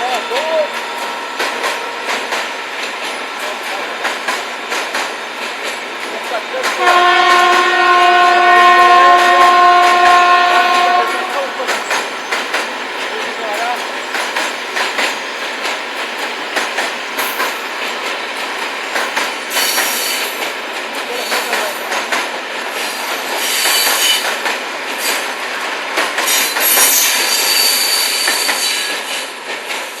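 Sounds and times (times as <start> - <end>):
train wheels clattering over joints: 0.0 - 30.0.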